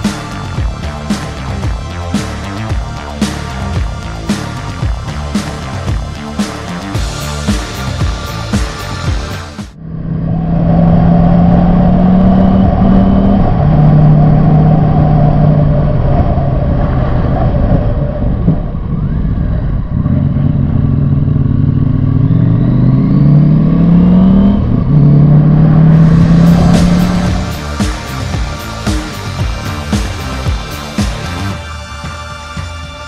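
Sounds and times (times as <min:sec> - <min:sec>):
motorcycle engine accelerating: 0:00.0 - 0:31.6.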